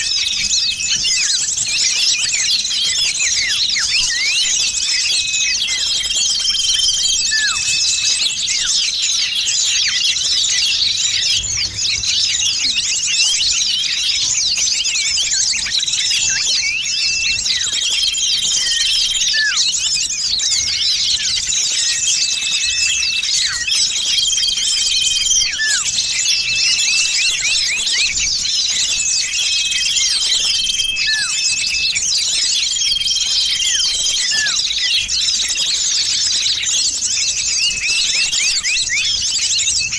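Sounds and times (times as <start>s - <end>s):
small songbirds chirping: 0.0s - 39.9s
whistled bird notes: 0.0s - 39.9s.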